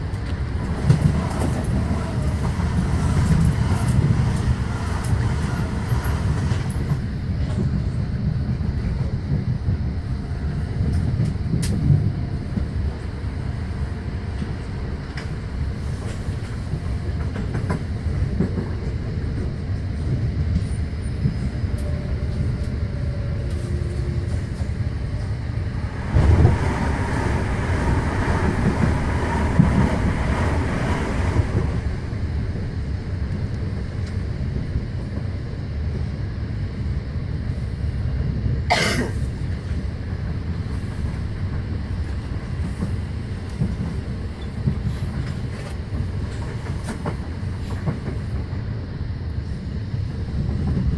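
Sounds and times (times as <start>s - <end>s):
train wheels rumbling on track: 0.0s - 50.9s.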